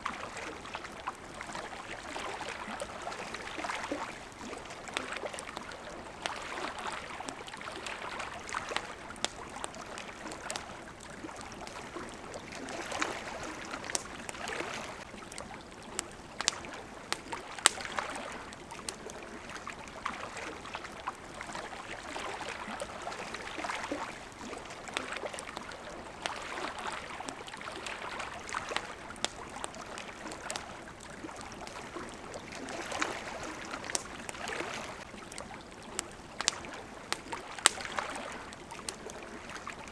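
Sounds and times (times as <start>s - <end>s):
campfire crackling and popping: 0.0s - 39.9s
small waves lapping on shore: 0.0s - 39.9s.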